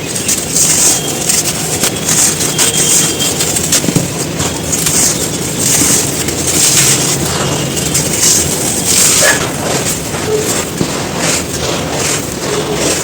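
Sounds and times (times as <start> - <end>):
dry sand crunching: 0.0 - 13.0.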